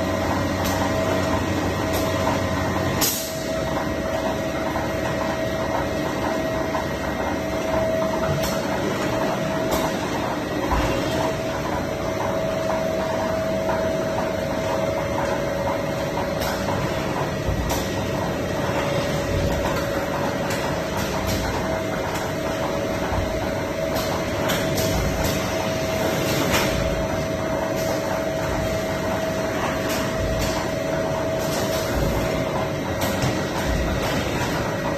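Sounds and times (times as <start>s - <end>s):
production machinery humming: 0.0s - 34.9s.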